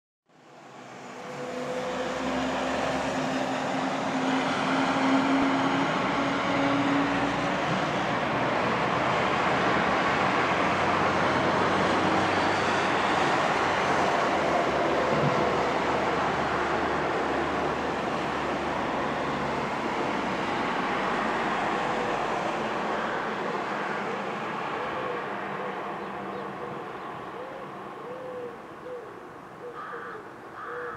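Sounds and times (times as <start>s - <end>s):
distant engine noise: 0.4s - 30.9s.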